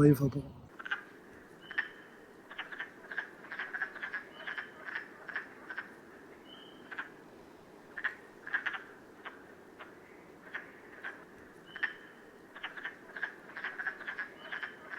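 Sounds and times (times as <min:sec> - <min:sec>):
frogs croaking: 0:00.1 - 0:07.2, 0:07.9 - 0:14.9.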